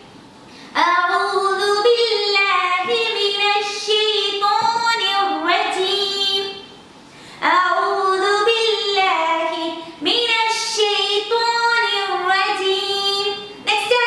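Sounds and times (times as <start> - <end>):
woman singing: 0.8 - 6.7, 7.4 - 14.0.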